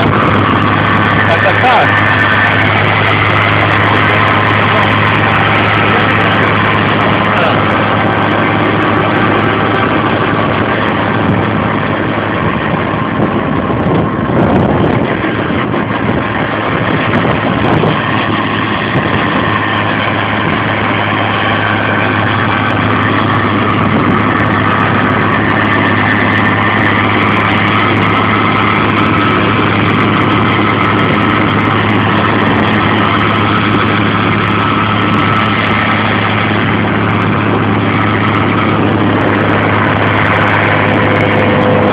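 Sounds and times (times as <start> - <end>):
tractor engine running under load: 0.0 - 41.9.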